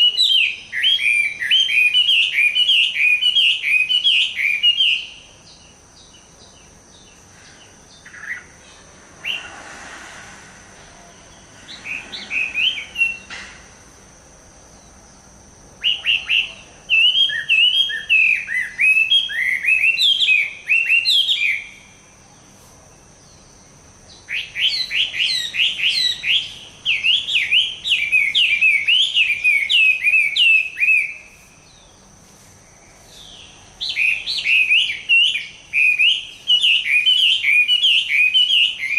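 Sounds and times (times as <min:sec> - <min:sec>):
bird singing whistled notes: 0:00.0 - 0:08.6, 0:09.2 - 0:09.6, 0:10.9 - 0:13.4, 0:15.8 - 0:22.4, 0:23.2 - 0:32.0, 0:32.7 - 0:38.9.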